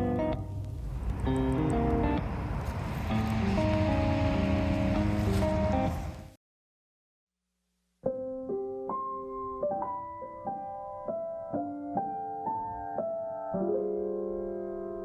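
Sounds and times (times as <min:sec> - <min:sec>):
soft piano melody: 0:00.0 - 0:06.3, 0:08.0 - 0:15.0.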